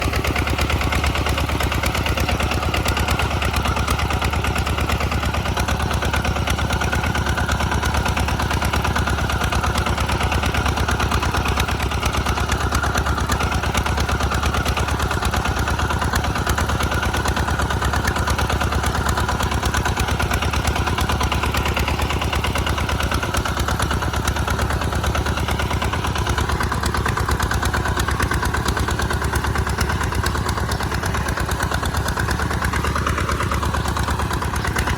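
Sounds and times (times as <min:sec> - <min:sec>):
tractor engine chugging: 0:00.0 - 0:34.9.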